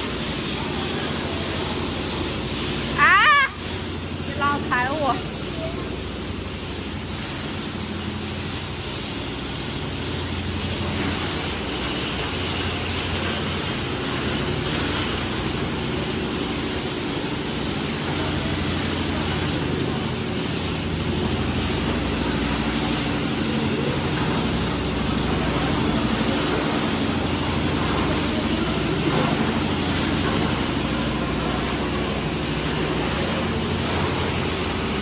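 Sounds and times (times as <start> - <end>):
machine running with low hum: 0.0 - 35.0.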